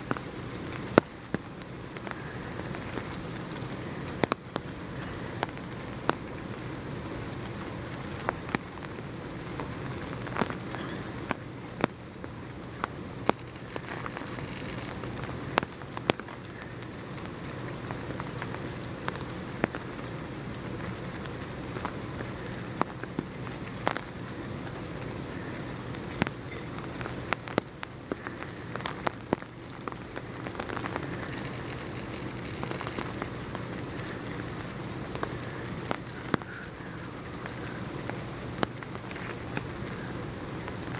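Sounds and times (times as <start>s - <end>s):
raindrops tapping on a surface: 0.0s - 40.9s
steady rain falling: 0.0s - 40.9s.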